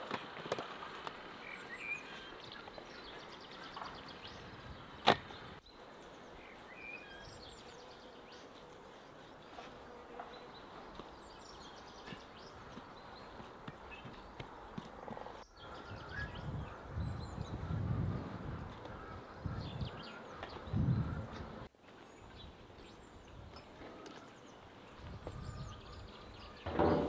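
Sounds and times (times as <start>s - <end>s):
steady outdoor background: 0.0s - 27.0s
birds chirping: 1.2s - 27.0s.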